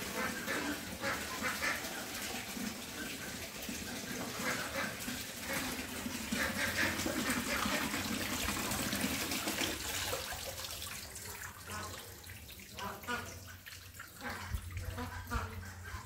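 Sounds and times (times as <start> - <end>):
tap water running into basin: 0.0 - 16.0.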